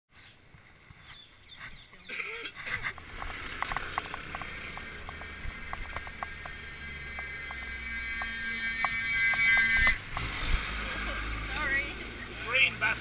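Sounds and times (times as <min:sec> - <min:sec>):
wind and road rumble: 0:00.1 - 0:13.0.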